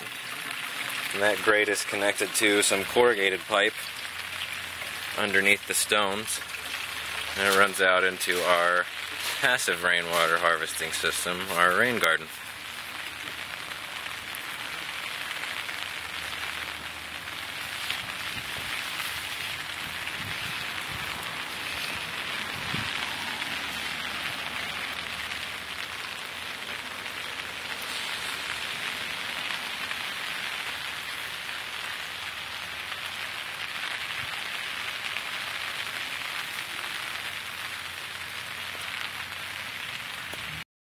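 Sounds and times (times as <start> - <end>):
rain on foliage and gravel: 0.0 - 40.6.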